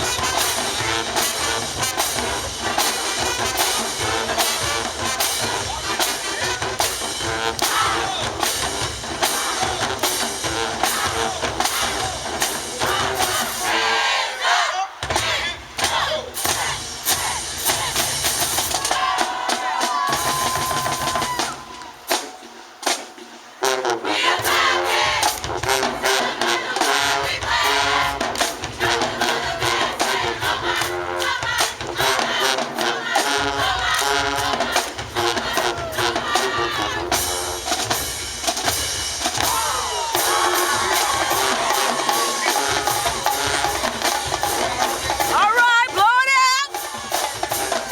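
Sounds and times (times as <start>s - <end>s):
horns playing: 0.0s - 14.7s, 23.6s - 47.9s
drumline hitting fast: 0.0s - 47.9s
marching band playing: 0.0s - 47.9s.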